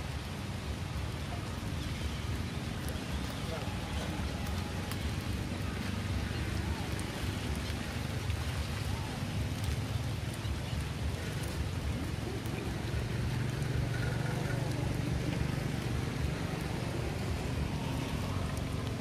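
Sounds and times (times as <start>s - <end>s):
low steady rumble: 0.0s - 19.0s
rain on puddles: 0.0s - 19.0s.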